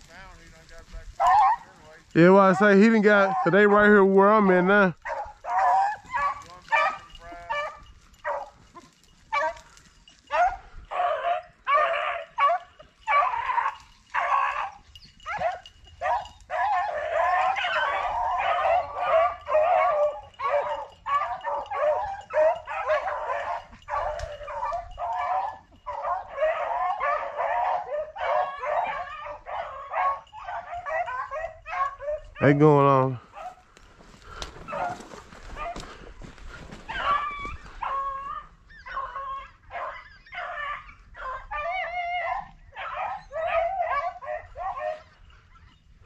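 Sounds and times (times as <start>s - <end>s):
hounds baying: 0.0s - 46.0s.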